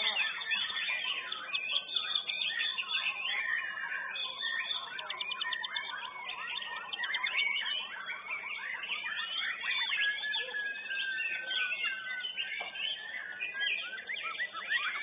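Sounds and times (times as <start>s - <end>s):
bird song with whistles and trills: 0.0s - 15.0s.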